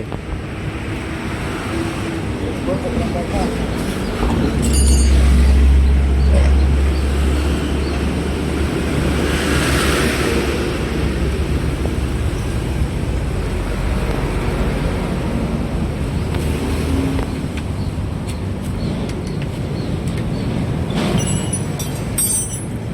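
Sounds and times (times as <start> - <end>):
vehicle engine and road noise: 0.0 - 22.9.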